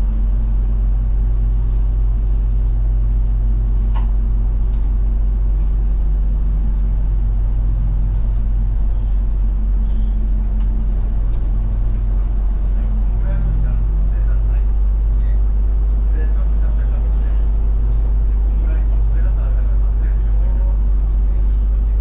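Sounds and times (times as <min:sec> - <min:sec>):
bus engine and road drone: 0:00.0 - 0:22.0.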